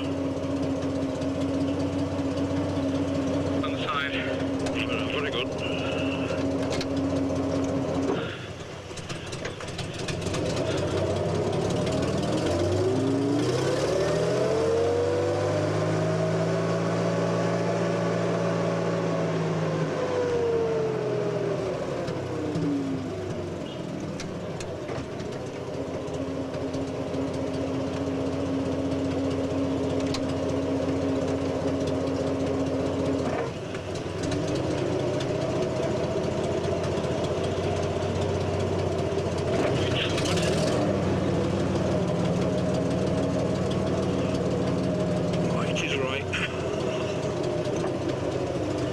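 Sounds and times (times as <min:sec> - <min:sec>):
vehicle engine idling and revving: 0:00.0 - 0:48.9.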